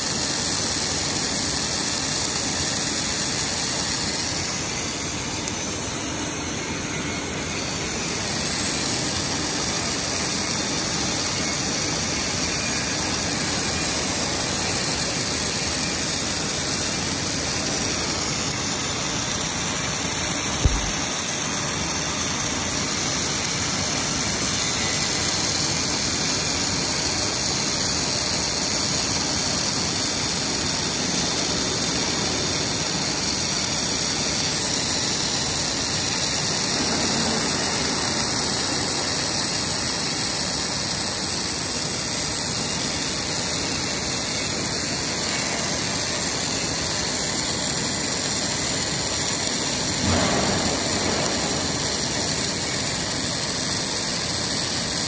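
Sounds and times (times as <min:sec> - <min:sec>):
welding arc hissing: 0:00.0 - 0:55.0.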